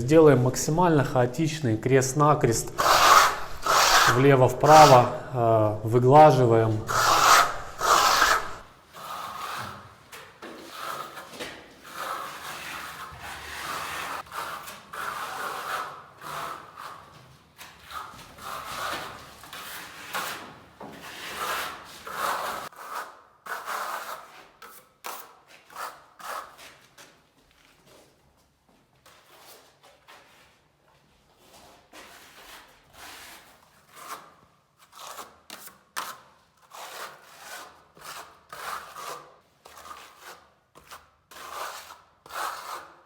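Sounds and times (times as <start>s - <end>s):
trowel scraping plaster on wall: 2.1s - 27.2s, 29.0s - 30.6s, 31.5s - 43.0s.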